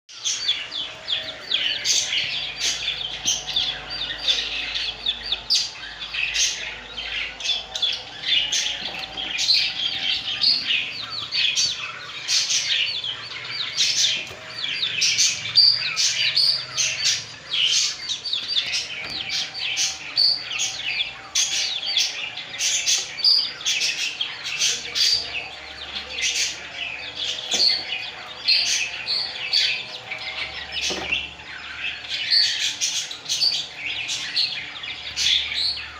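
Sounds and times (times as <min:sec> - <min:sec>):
budgies chirping and chattering: 0:00.1 - 0:35.9.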